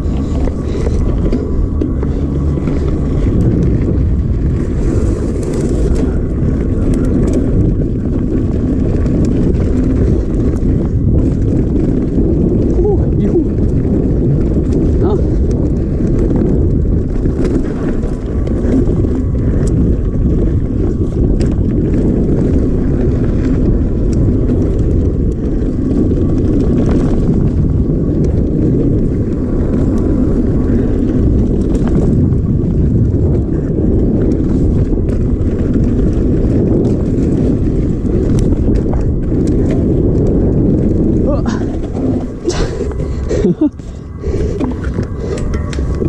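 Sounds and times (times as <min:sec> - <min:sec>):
bike clicks and rattles: 0:00.0 - 0:46.0
tyres on dirt: 0:00.0 - 0:46.0
wind on microphone: 0:00.0 - 0:46.0.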